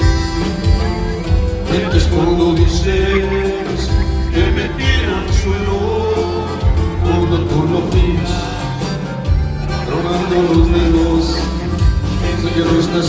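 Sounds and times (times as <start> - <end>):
accordion melody: 0.0 - 13.0
live band playing: 0.0 - 13.0.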